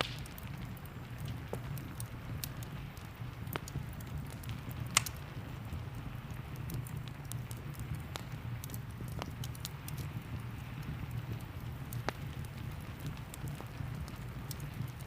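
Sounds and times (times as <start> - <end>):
wood fire crackling and snapping: 0.0 - 15.0.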